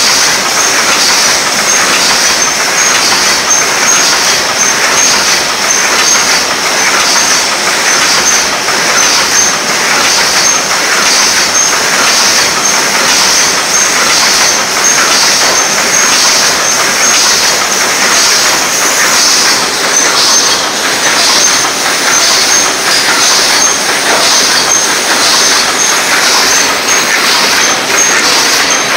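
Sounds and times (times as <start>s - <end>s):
machine mechanical clatter: 0.0s - 28.9s.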